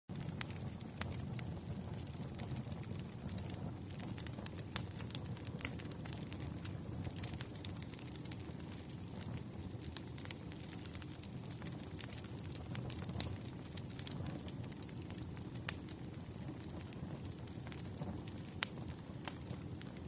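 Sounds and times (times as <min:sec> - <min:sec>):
wood fire crackling: 0:00.1 - 0:20.0.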